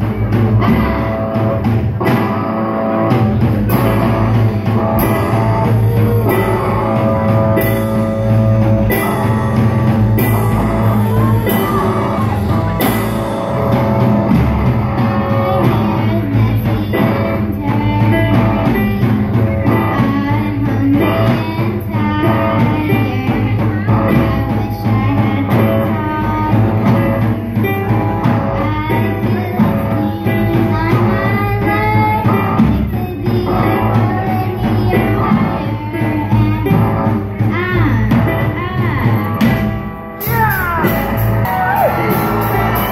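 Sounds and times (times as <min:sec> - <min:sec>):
girl singing lead: 0:00.0 - 0:42.9
rock band playing live: 0:00.0 - 0:42.9.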